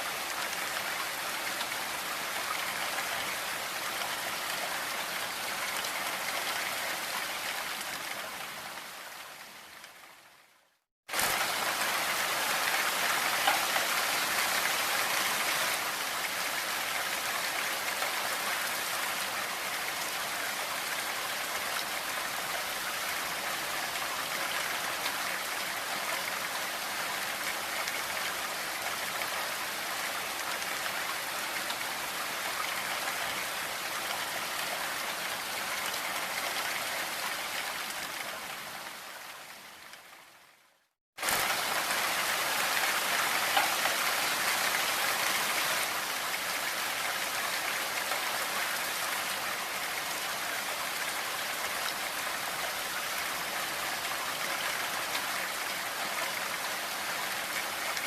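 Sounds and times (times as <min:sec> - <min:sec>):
dense rain hiss: 0:00.0 - 0:58.0.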